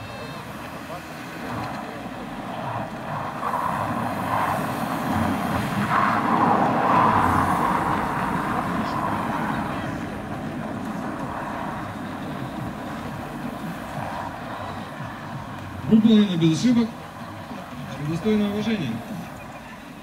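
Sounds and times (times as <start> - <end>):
car engine and tyres on snow: 0.0 - 20.0.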